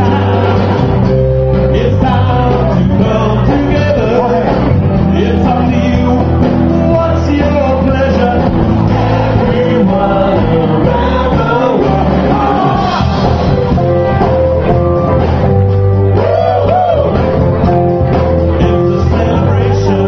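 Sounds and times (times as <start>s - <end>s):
person singing: 0.0s - 14.0s, 16.1s - 20.0s
live band playing: 0.0s - 20.0s
prominent bass line: 0.0s - 20.0s.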